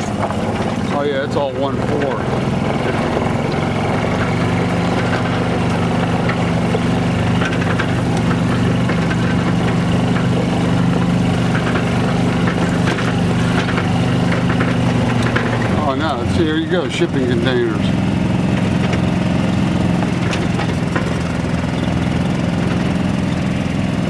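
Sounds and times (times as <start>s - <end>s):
small utility vehicle engine: 0.0s - 24.0s.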